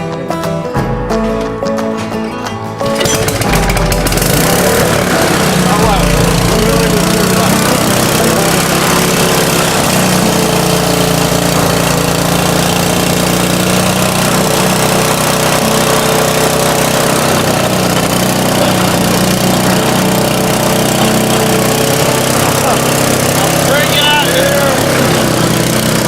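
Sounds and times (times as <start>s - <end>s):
small motor running steadily: 2.9s - 26.0s.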